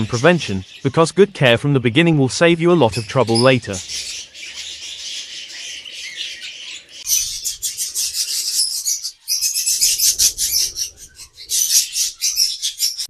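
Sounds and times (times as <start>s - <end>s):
budgies chattering: 0.0s - 13.0s.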